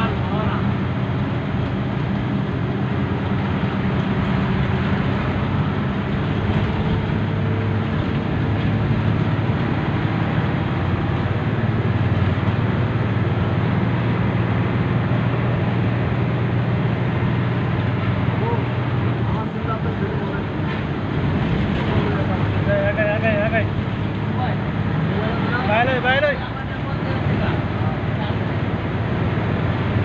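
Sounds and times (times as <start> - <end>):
bus engine droning: 0.0 - 30.0
tyre and road noise: 0.0 - 30.0.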